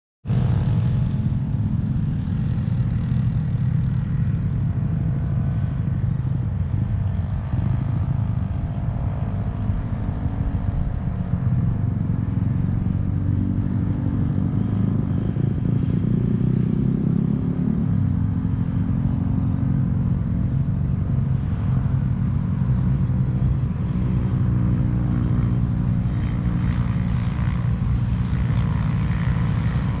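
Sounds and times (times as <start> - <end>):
wind buffeting microphone: 0.3 - 30.0.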